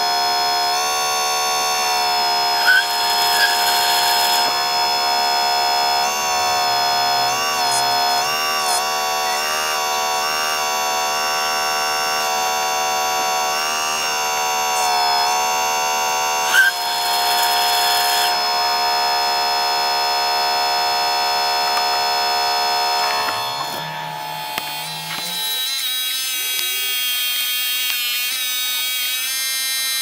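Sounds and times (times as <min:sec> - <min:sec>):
hydraulic pump motor whine: 0:00.0 - 0:30.0.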